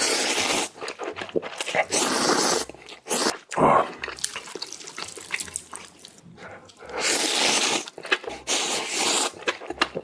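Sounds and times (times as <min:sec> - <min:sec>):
noodles slurped: 0:00.0 - 0:10.0
wet chewing clicks: 0:00.3 - 0:10.0.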